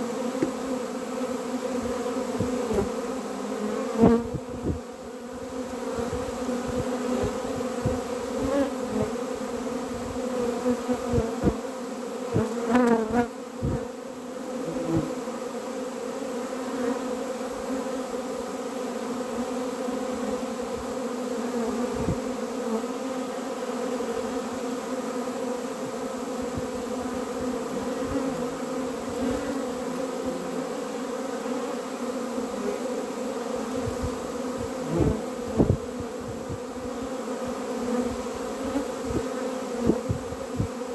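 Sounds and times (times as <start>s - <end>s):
bee flying close past: 0.0s - 40.9s
honeybees buzzing: 0.0s - 40.9s.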